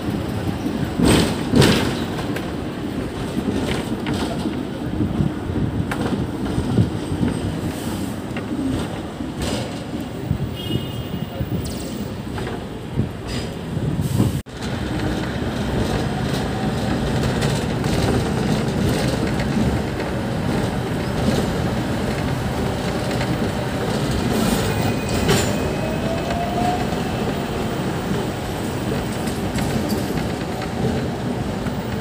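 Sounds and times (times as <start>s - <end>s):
tram wheels rumbling on rails: 0.0s - 32.0s.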